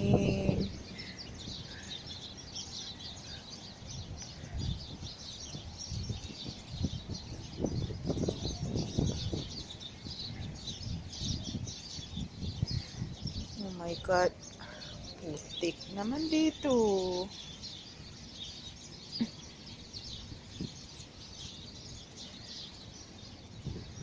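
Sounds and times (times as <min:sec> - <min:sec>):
small birds chirping: 0:00.0 - 0:24.0
wind gusting on microphone: 0:00.0 - 0:24.0.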